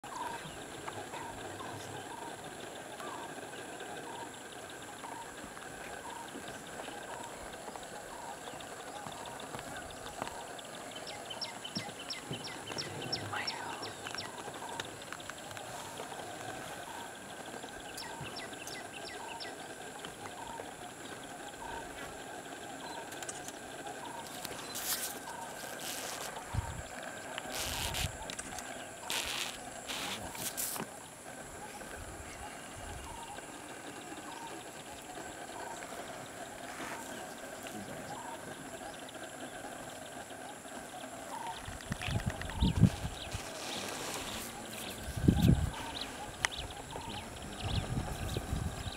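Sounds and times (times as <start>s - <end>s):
high drone and hiss: 0.0s - 48.9s.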